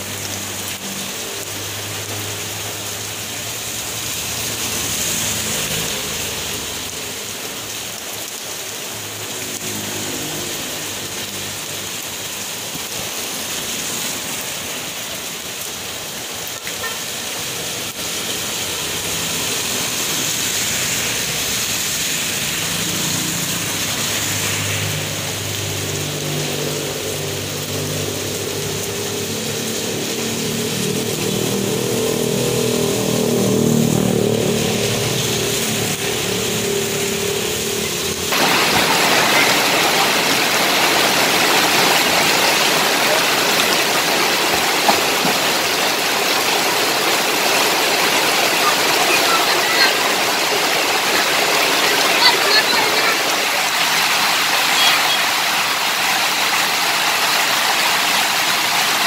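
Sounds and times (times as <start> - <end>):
rain on a wet street: 0.0 - 59.0
vehicles passing: 0.0 - 59.0.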